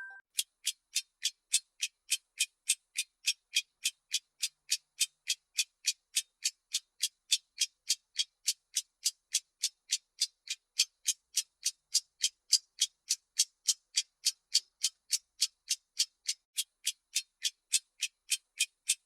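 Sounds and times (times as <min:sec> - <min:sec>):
timer clock ticking: 0:00.0 - 0:19.0.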